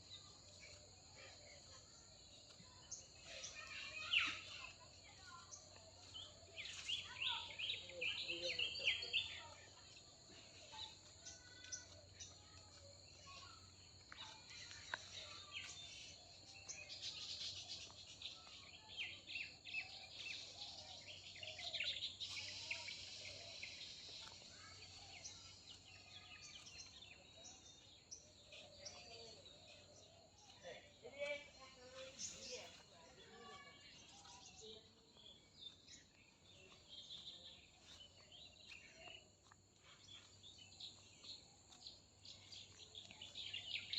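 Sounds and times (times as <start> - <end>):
birds chirping and singing: 0.0 - 43.9.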